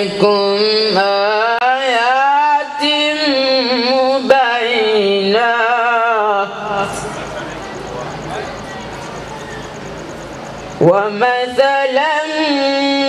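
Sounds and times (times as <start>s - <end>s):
man reciting melodically: 0.0s - 8.6s, 10.8s - 13.0s.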